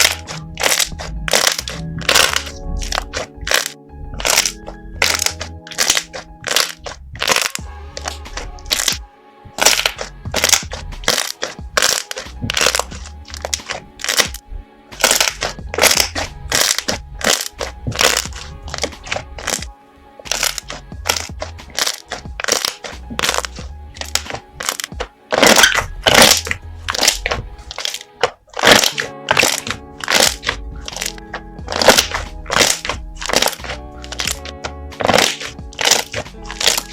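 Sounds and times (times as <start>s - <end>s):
slime crackling pops: 0.0s - 9.0s, 9.6s - 14.4s, 15.0s - 19.7s, 20.3s - 36.9s
background music: 0.0s - 36.9s.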